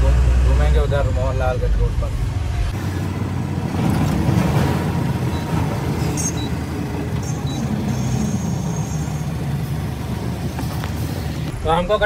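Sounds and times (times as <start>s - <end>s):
road noise: 0.0s - 12.0s
truck diesel engine rumbling: 0.0s - 12.0s.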